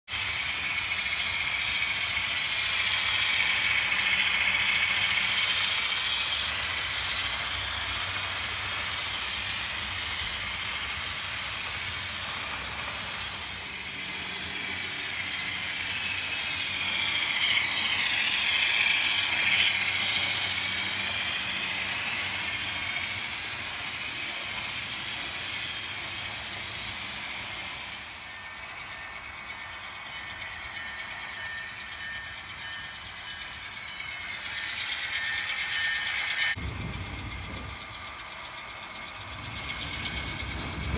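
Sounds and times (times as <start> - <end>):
model train motor hum: 0.1 - 40.9
wheels on rails: 0.1 - 40.9.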